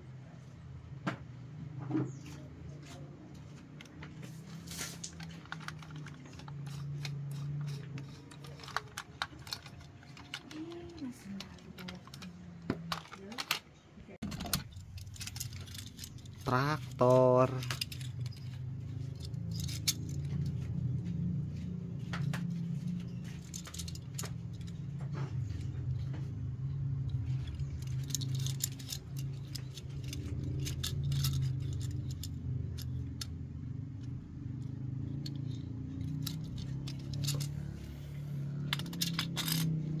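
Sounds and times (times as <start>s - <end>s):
plastic clicks and rattles: 3.5s - 20.7s, 22.0s - 37.8s, 38.6s - 40.0s.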